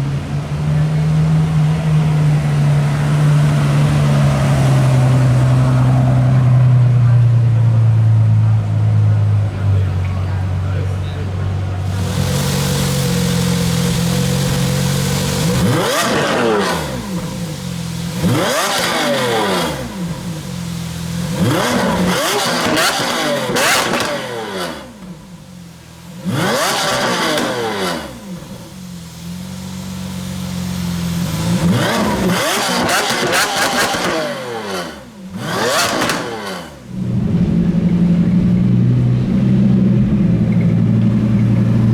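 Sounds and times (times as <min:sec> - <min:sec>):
supercar engine revving: 0:00.0 - 0:41.9.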